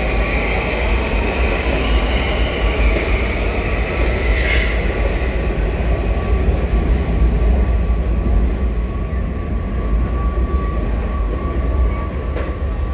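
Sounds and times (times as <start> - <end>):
train rumbling in tunnel: 0.0 - 12.9.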